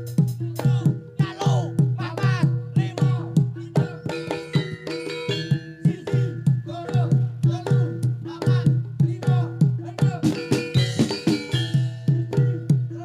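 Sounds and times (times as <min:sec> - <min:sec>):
drum strokes: 0:00.0 - 0:13.0
metallophones: 0:00.0 - 0:13.0.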